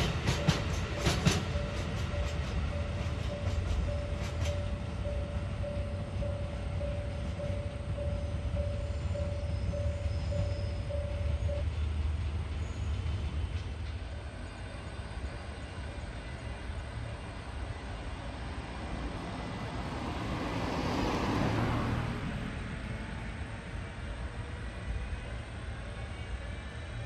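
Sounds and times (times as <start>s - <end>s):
rushing noise of passing train: 0.0s - 27.0s
train low rumble: 0.0s - 27.0s.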